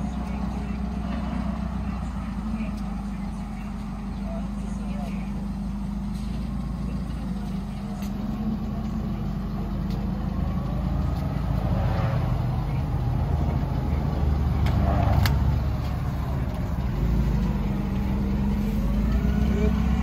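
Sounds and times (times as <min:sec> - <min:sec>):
forklift engine idling: 0:00.0 - 0:20.0.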